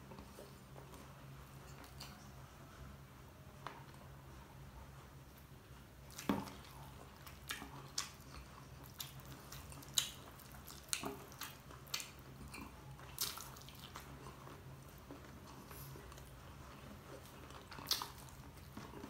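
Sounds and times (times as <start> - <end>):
faint low hum: 0.0 - 19.0
wet chewing with mouth clicks: 0.1 - 2.4, 5.4 - 19.0.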